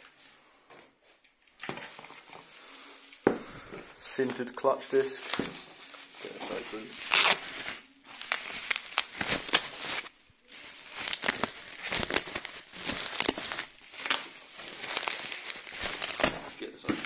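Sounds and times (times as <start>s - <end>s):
bubble wrap crinkling: 1.8s - 17.0s.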